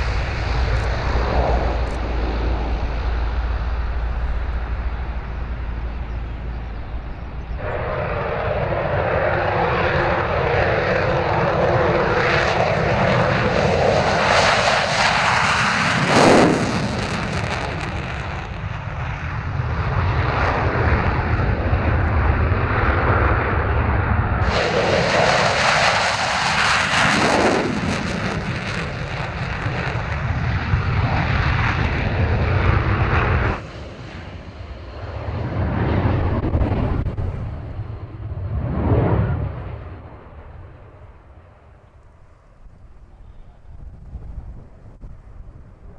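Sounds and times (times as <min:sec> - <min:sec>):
fighter jets taking off: 0:00.0 - 0:45.9
turboprop plane climbing: 0:00.0 - 0:45.9.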